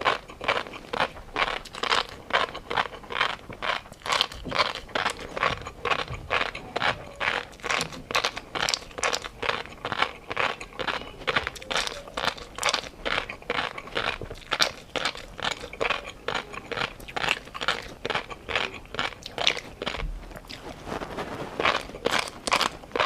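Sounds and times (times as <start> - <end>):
chewing crunchy food: 0.0 - 23.0.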